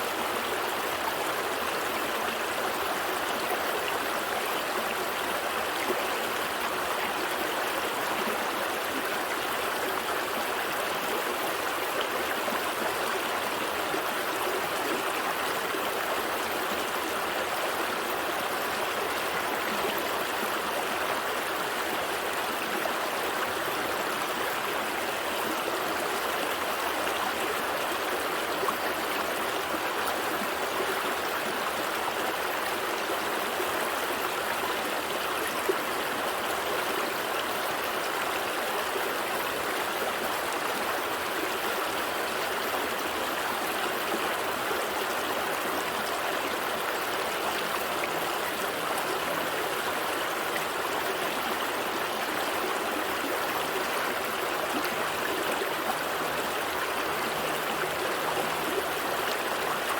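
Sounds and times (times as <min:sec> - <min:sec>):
small stream flowing: 0:00.0 - 0:59.9.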